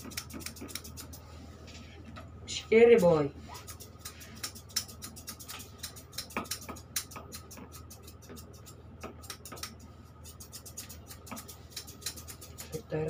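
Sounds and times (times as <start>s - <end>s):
scissors snipping fur: 0.0s - 1.2s, 3.5s - 13.0s
steady low hum: 0.0s - 13.0s.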